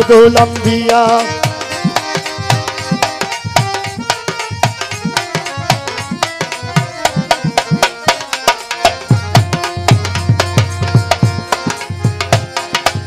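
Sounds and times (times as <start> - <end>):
fast tabla drumming: 0.0 - 13.0
melody instrument holding notes: 0.8 - 13.0.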